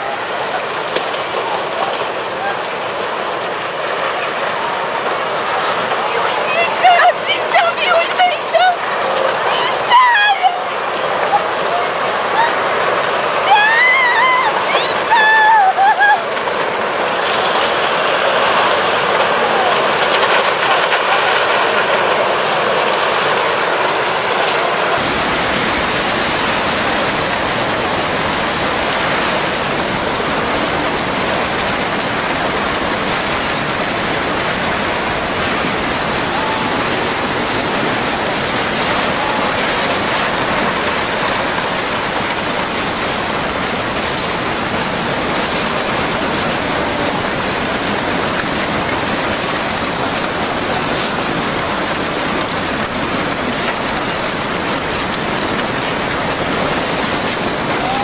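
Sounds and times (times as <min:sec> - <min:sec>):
roar of rushing water and debris: 0:00.0 - 0:58.0.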